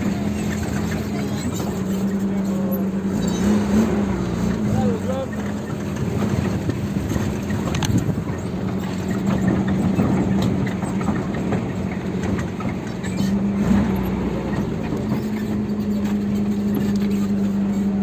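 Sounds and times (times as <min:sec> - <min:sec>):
road travel noise: 0:00.0 - 0:18.0
vehicle engine humming: 0:00.0 - 0:18.0.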